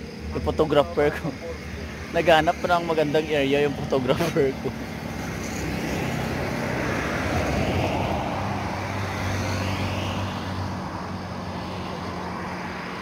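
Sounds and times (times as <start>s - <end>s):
vehicle passing on a road: 0.0s - 13.0s.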